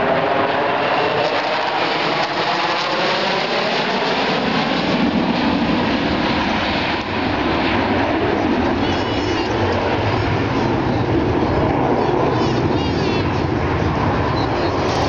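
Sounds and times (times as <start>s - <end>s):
falling jet whine: 0.0s - 15.0s
fighter jets roaring past: 0.0s - 15.0s.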